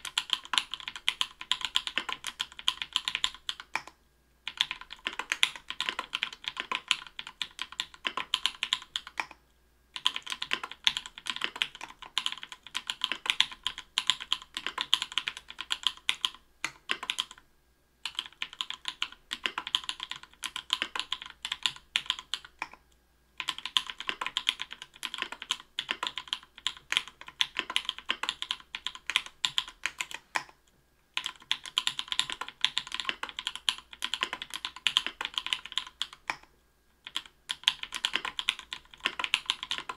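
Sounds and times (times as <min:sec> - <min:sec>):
mechanical keyboard typing: 0:00.0 - 0:09.4, 0:10.0 - 0:17.4, 0:18.0 - 0:22.8, 0:23.4 - 0:30.6, 0:31.2 - 0:39.9.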